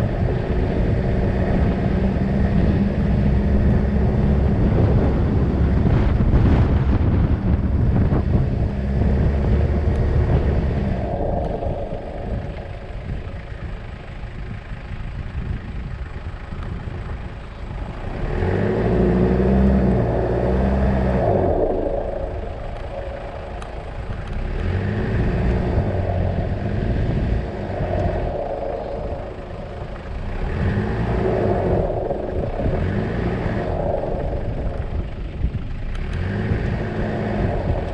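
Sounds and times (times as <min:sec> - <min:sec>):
vehicle engine running: 0:00.0 - 0:37.9.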